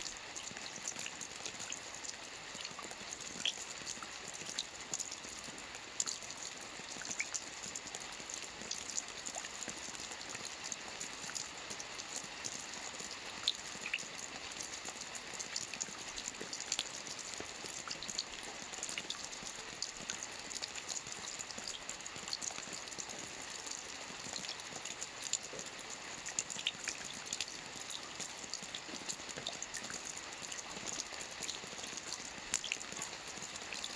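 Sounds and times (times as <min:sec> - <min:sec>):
rain on a roof: 0:00.0 - 0:33.9.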